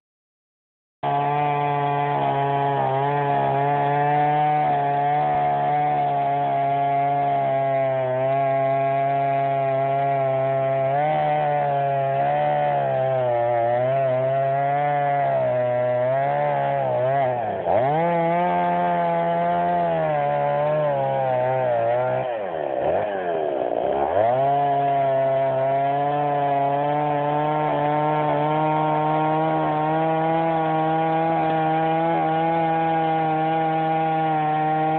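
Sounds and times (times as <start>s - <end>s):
chainsaw running at high revs: 1.0s - 34.9s.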